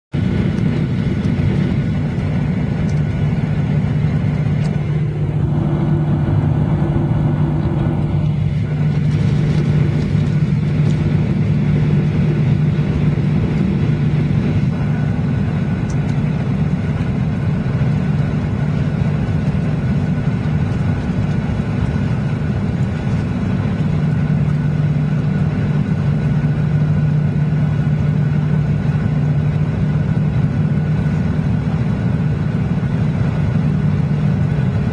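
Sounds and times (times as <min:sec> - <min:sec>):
jet engine cabin hum: 0:00.1 - 0:34.9.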